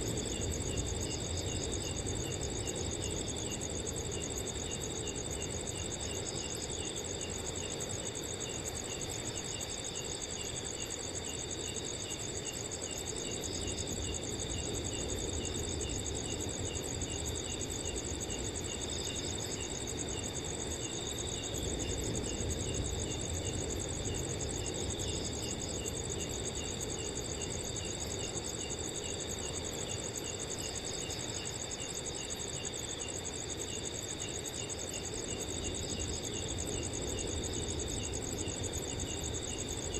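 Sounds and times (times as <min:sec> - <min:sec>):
crickets trilling and chirping: 0:00.0 - 0:39.9.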